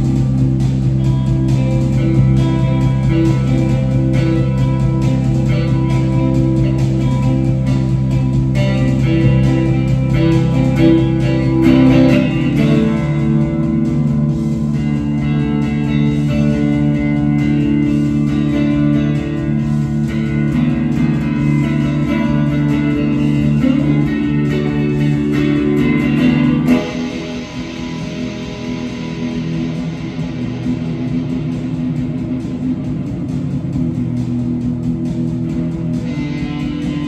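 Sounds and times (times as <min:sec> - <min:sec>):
electric guitar psychedelic rock: 0:00.0 - 0:37.0
low droning notes: 0:00.0 - 0:37.0.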